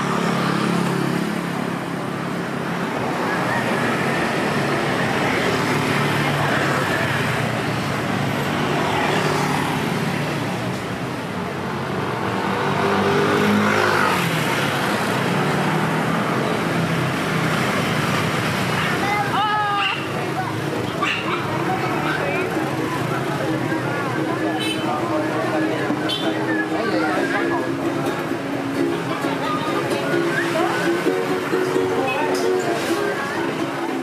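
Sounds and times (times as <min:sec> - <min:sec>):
faint voices: 0:00.0 - 0:34.0
vehicles passing: 0:00.0 - 0:34.0.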